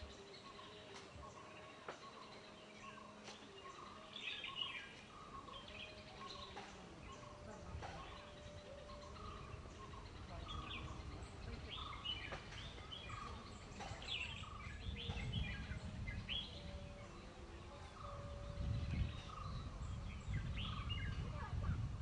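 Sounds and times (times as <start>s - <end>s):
birds chirping: 0.0s - 22.0s
faint held bird notes: 0.0s - 22.0s.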